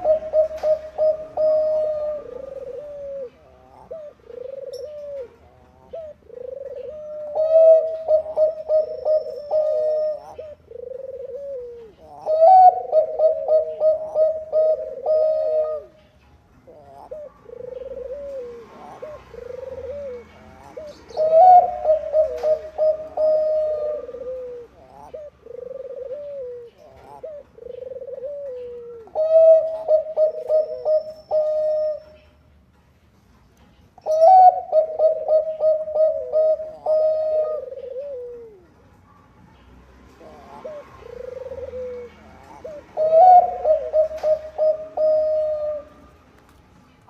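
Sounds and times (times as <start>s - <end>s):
dove cooing: 0.0s - 32.4s, 34.0s - 39.2s, 40.1s - 47.0s
dove stuttering song phrases: 0.0s - 32.5s, 33.9s - 39.2s, 40.1s - 47.0s.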